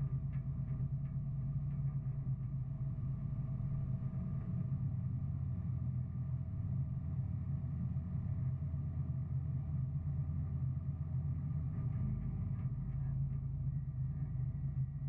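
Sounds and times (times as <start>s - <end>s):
truck engine low drone: 0.0s - 15.0s.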